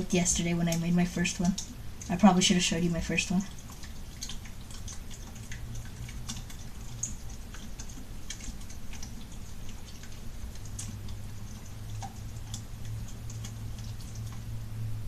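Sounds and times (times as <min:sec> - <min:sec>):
slime being stirred: 0:00.0 - 0:14.6.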